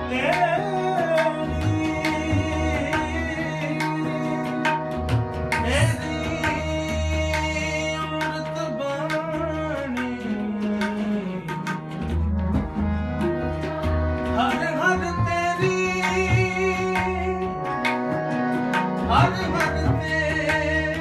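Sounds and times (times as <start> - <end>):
harmonium chords: 0.0 - 21.0
tabla playing a rhythm: 0.0 - 21.0.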